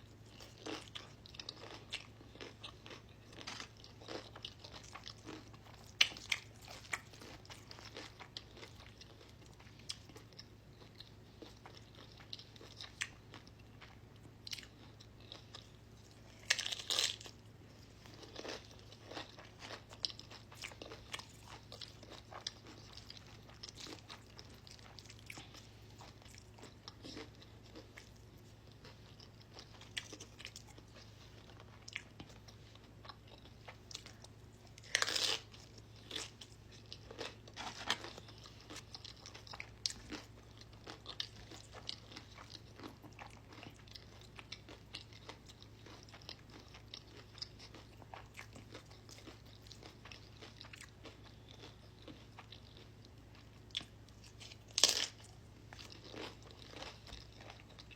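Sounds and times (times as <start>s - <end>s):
person crunching chips: 0.2s - 10.4s, 11.4s - 57.9s.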